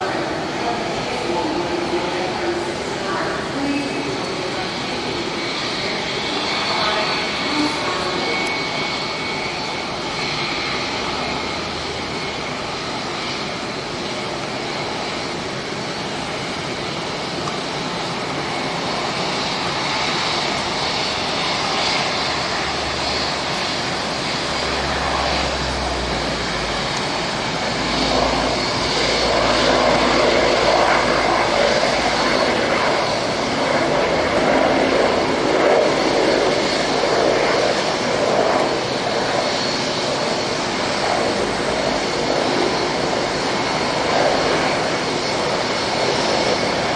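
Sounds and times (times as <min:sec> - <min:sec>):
turboprop engines running: 0:00.0 - 0:46.9.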